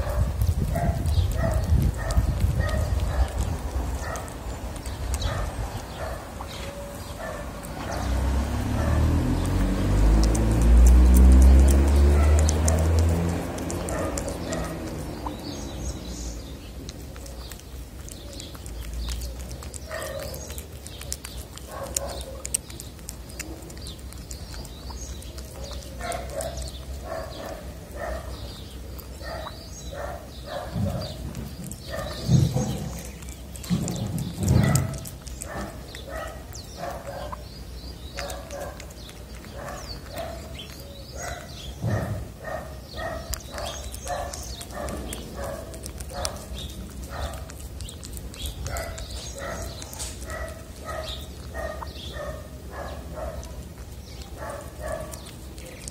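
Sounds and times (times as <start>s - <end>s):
cat chewing wet food: 0.0s - 55.9s.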